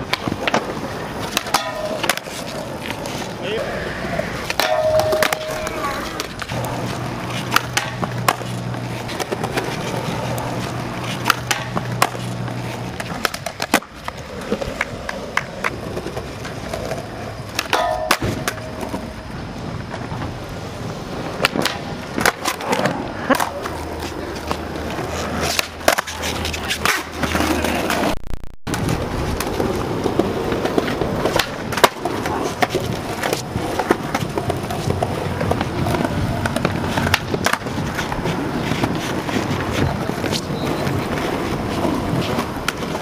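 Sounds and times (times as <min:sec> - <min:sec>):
skateboard grinding on rail: 0:00.0 - 0:43.0
skateboard wheels rolling on concrete: 0:00.0 - 0:43.0
skateboards clacking: 0:00.0 - 0:43.0.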